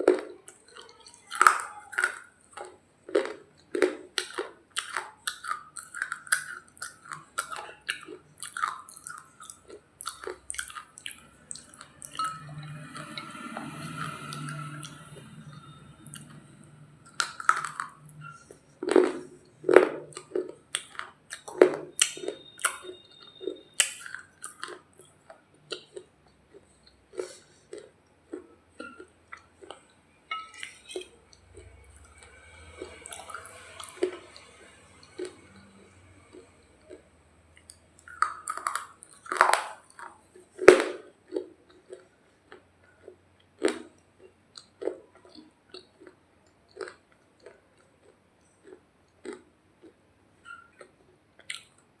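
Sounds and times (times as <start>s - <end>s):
crunching and chewing flatbread: 0.0s - 52.0s.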